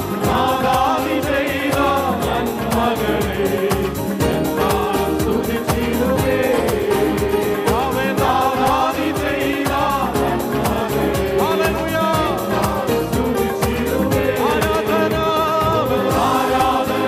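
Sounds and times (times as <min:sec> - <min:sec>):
group singing along: 0:00.0 - 0:17.0
live band with steady beat: 0:00.0 - 0:17.0
man singing lead: 0:00.0 - 0:17.0.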